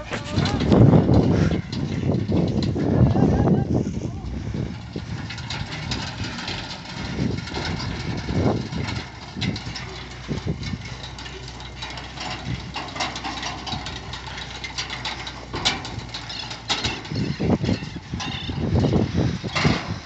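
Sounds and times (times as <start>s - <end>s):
bale elevator clanking and rattling: 0.0s - 20.0s
engine running: 0.0s - 20.0s.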